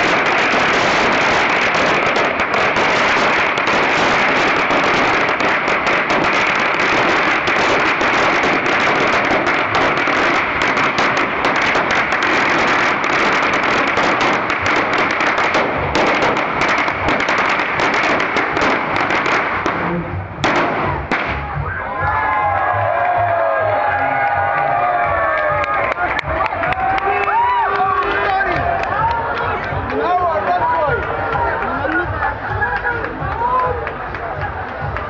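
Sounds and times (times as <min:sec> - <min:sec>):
string of firecrackers crackling: 0:00.0 - 0:21.7, 0:23.1 - 0:35.0.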